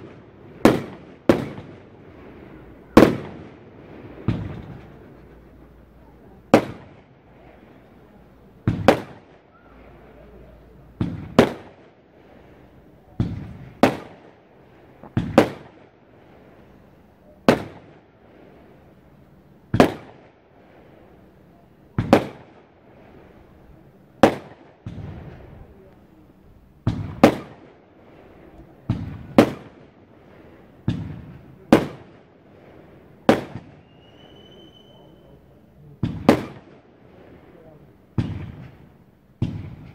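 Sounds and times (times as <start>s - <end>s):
fireworks shots: 0.0s - 39.9s.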